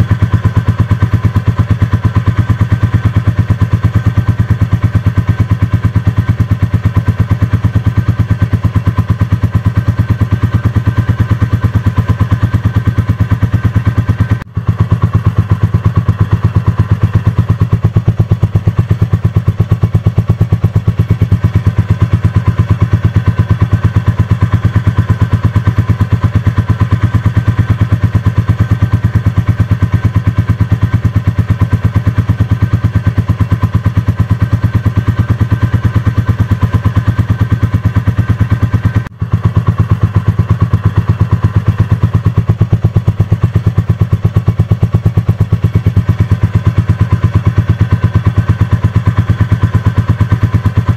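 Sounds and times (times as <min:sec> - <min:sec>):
motorcycle engine thumping: 0:00.0 - 0:50.9.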